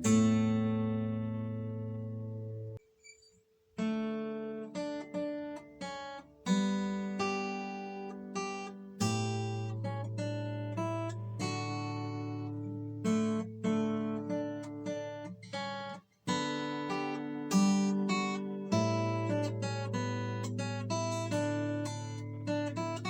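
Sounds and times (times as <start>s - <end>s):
acoustic guitar chords ringing: 0.0s - 2.8s, 3.8s - 23.0s.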